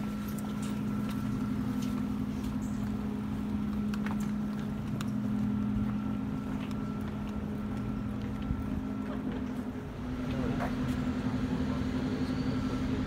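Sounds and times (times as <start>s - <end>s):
faint high whine: 0.0s - 13.0s
low mechanical hum of machinery: 0.0s - 13.0s.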